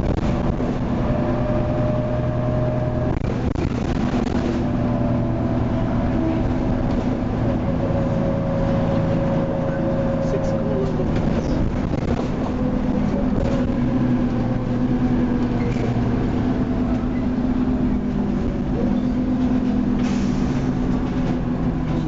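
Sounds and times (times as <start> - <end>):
bus body rattles: 0.0 - 22.0
bus diesel engine running: 0.0 - 22.0.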